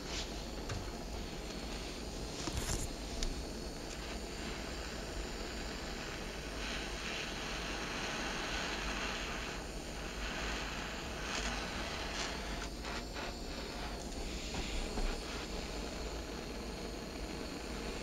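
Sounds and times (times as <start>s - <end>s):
gas torch hissing: 0.0s - 18.0s.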